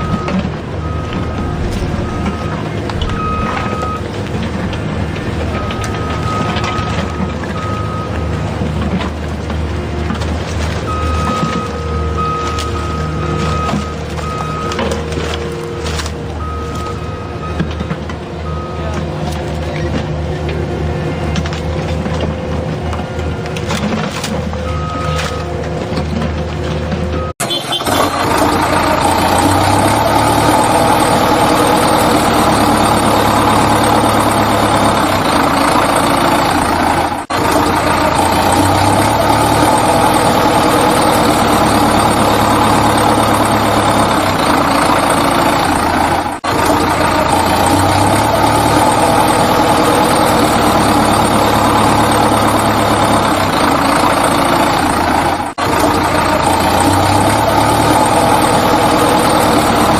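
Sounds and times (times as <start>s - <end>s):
heavy engine idling: 0.0s - 59.9s.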